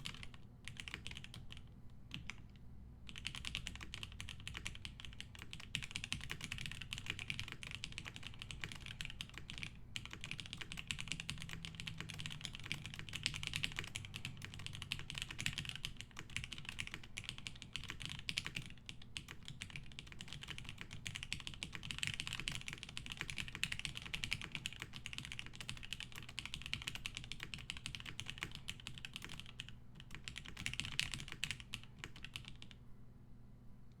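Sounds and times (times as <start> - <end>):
typing on mechanical keyboard: 0.0 - 32.8.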